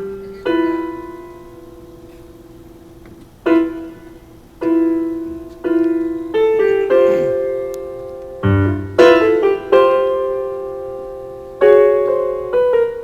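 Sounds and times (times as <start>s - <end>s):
keyboard piano notes and chord: 0.0s - 13.0s.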